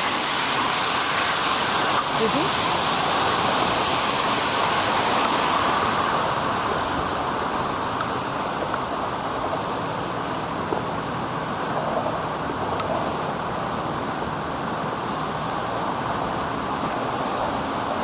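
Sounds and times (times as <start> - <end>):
tyres hissing on wet road: 0.0 - 18.0.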